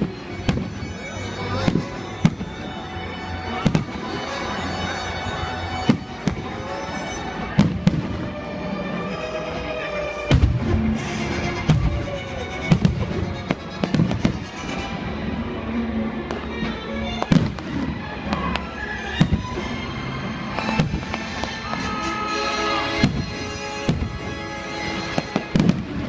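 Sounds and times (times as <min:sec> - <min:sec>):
fireworks bursting with sharp bangs: 0:00.0 - 0:15.6, 0:16.2 - 0:26.0.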